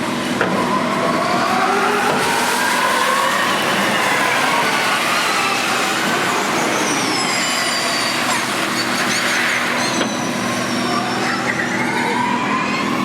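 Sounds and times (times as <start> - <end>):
electric race car whine: 0.0 - 13.0.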